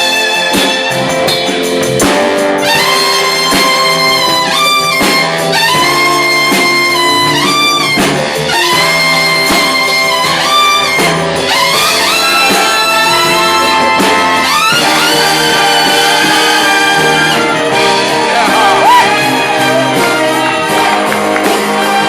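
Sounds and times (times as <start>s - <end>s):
big band jazz: 0.0s - 22.0s
trumpets playing bent notes: 0.0s - 22.0s.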